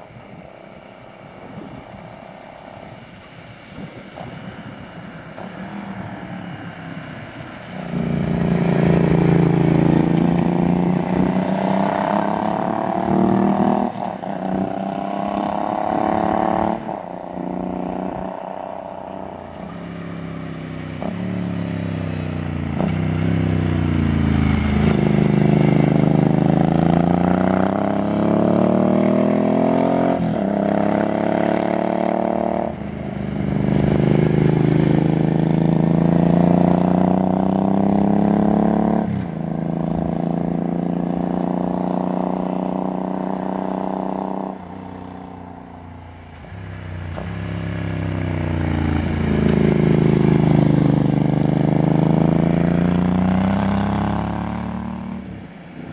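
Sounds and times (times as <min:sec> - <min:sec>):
motorcycle accelerating through gears: 0:03.7 - 0:55.9.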